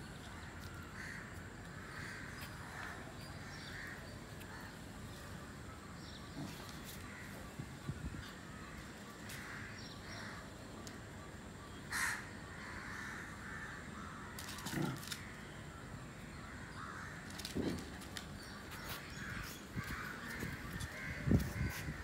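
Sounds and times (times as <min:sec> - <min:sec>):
faint steady background noise: 0:00.0 - 0:22.0.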